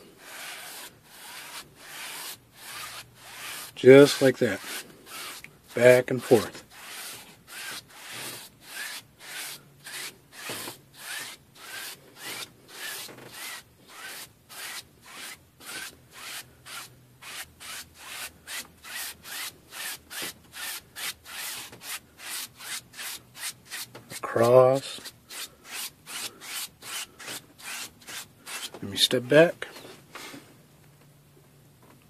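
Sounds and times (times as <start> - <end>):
paint brush rubbing on canvas: 0.0 - 29.1.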